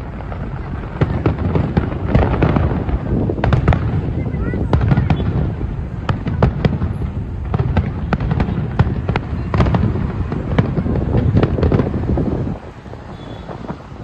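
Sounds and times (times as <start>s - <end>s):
fireworks cracks and bangs: 0.0s - 14.0s
low rumble of bursts: 0.0s - 14.0s.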